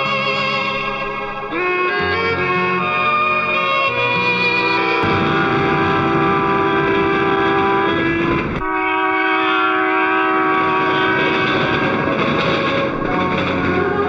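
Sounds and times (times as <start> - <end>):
train horn: 0.0 - 14.0
train rumbling on rails: 0.0 - 14.0.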